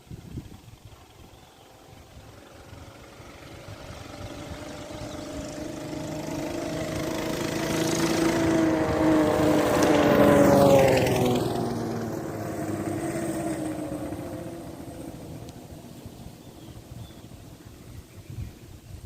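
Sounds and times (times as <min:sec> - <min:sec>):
mini bike engine passing by: 0:00.1 - 0:18.7.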